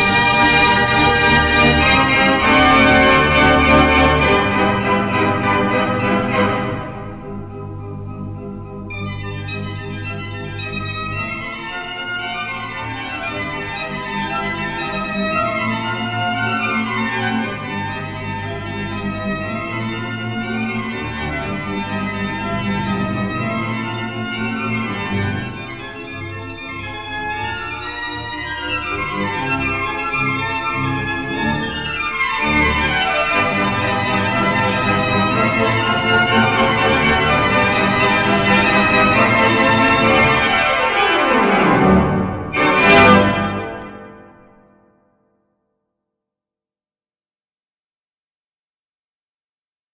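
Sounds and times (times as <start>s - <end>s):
pipe organ playing: 0.0s - 44.7s.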